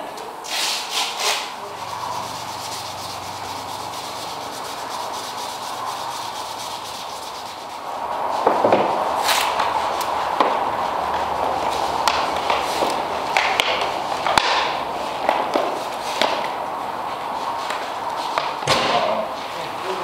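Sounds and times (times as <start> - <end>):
low hum: 1.6 - 18.5.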